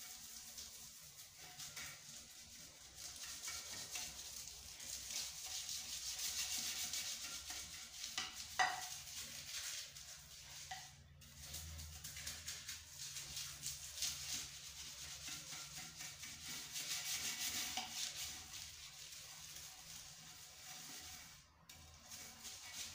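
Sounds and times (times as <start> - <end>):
toilet brush scrubbing bowl: 0.0 - 22.9.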